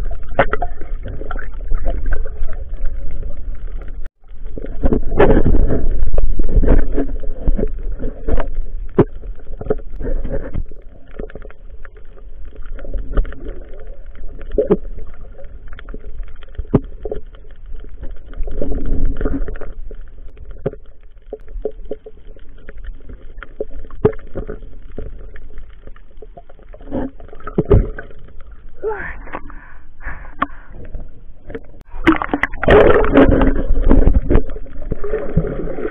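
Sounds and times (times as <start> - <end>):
bubbles: 0.0 - 35.9
underwater rumbling water: 0.0 - 35.9.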